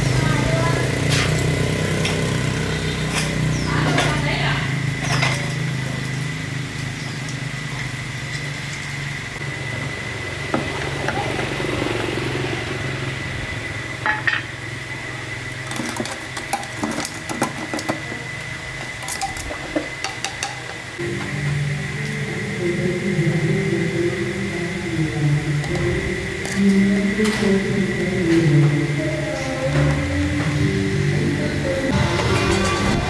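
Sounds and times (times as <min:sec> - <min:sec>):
motor humming with high whine: 0:00.0 - 0:33.0.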